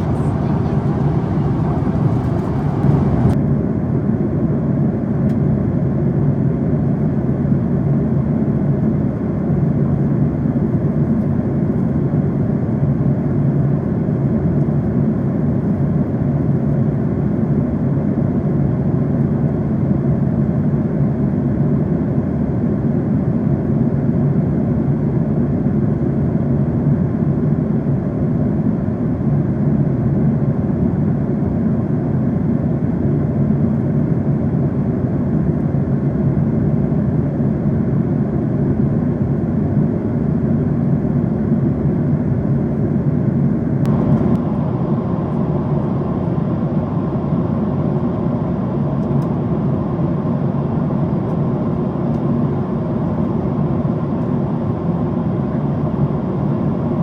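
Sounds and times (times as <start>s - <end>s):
airplane engine and airflow drone: 0.0s - 57.0s.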